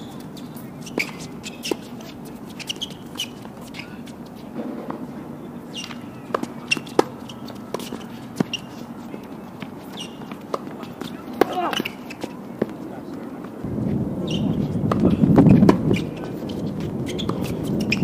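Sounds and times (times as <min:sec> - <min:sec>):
shoe squeaks: 0:00.0 - 0:12.5, 0:14.2 - 0:18.0
tennis balls struck and bouncing: 0:00.0 - 0:13.7, 0:14.3 - 0:18.0.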